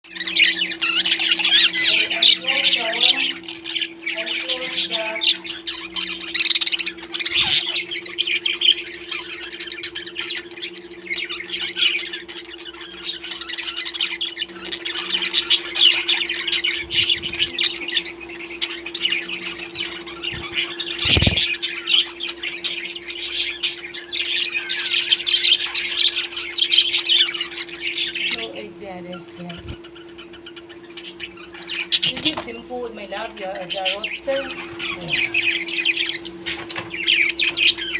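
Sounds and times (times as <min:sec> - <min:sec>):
electrical hum: 0:00.0 - 0:37.9
parrots chattering and squawking: 0:00.0 - 0:37.9.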